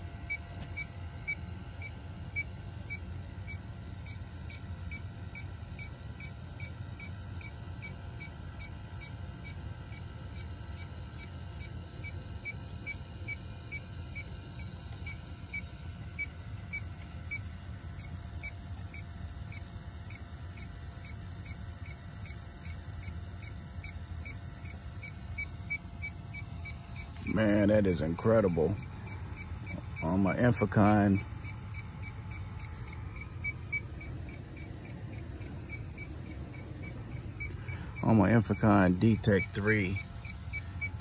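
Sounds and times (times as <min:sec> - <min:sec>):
leak detector beeping: 0:00.0 - 0:41.0
low steady hum: 0:00.0 - 0:41.0.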